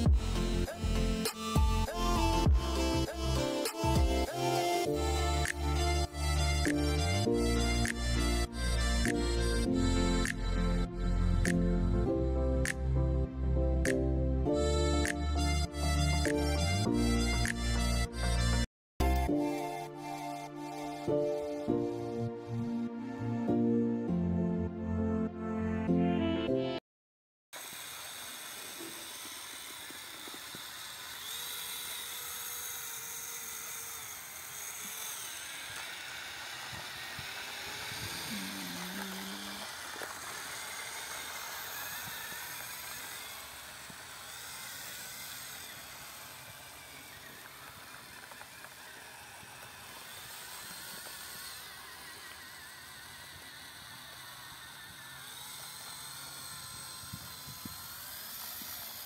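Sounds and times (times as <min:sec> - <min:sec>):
small electric motor whirring: 0:00.0 - 0:13.2, 0:13.8 - 0:23.8, 0:27.6 - 0:59.0.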